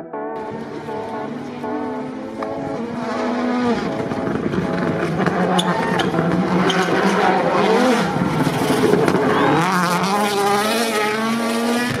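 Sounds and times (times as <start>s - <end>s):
car engine running: 0.1s - 12.0s.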